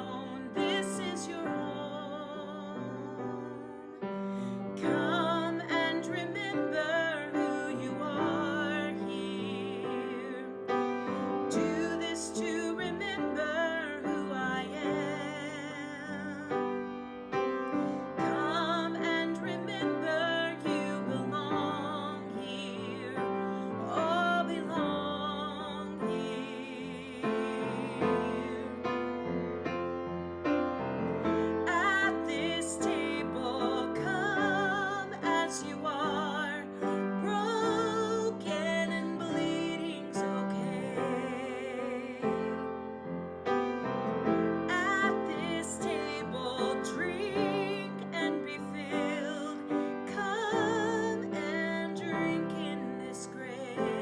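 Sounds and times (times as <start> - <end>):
woman singing a hymn: 0.0 - 29.1, 31.2 - 42.7, 44.5 - 54.0
piano accompaniment: 0.0 - 54.0.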